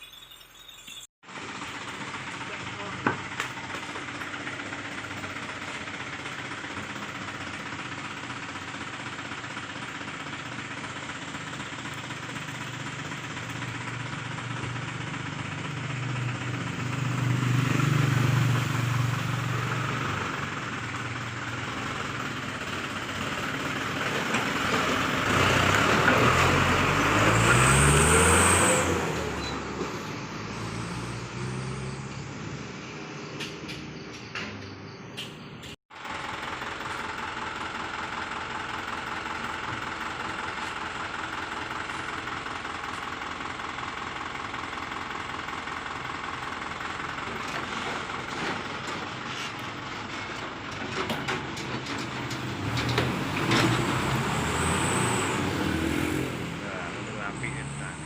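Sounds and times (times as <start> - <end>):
diesel truck engine idling and revving: 1.0 - 58.0.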